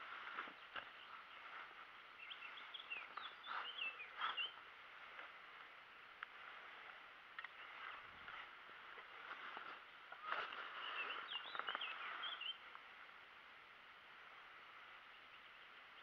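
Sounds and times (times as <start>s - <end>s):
bird chirping: 0.0s - 12.8s, 14.8s - 16.0s
outdoor background: 0.0s - 16.0s.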